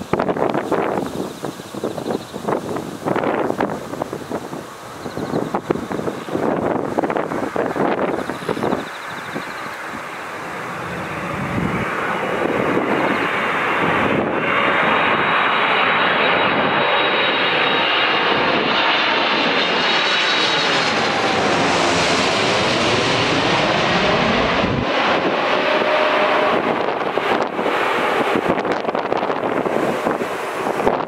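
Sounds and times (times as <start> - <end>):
high jet whine: 0.0 - 31.0
jet engines passing overhead: 0.0 - 31.0.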